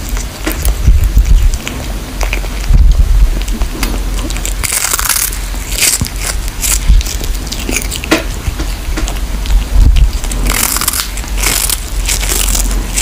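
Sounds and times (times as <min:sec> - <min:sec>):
kitten crunching on fish: 0:00.0 - 0:13.0.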